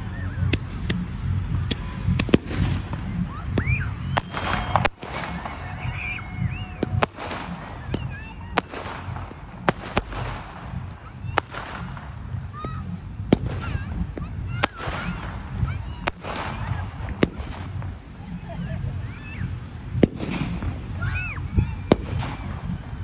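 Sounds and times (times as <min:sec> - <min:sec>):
fireworks bangs and cracks: 0:00.0 - 0:18.7, 0:19.9 - 0:23.0
steady low rumble: 0:00.0 - 0:23.0.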